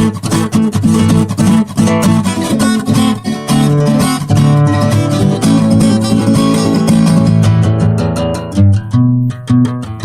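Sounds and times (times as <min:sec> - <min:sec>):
plucked and strummed guitar: 0:00.0 - 0:10.0.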